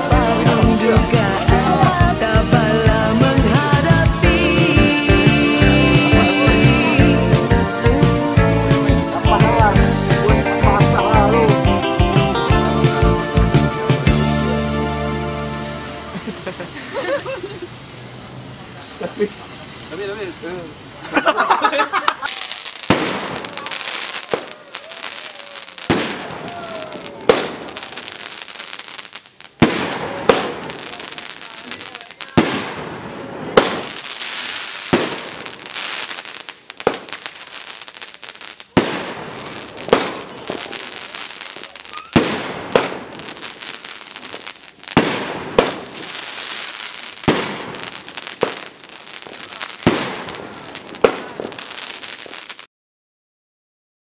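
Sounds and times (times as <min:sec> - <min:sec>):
fireworks bangs: 0:00.0 - 0:21.4, 0:22.1 - 0:52.7
fireworks crackling: 0:00.0 - 0:52.7.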